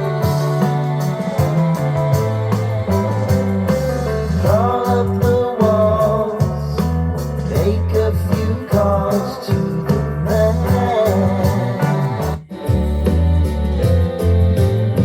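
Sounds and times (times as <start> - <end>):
pop song through speaker: 0.0 - 15.0.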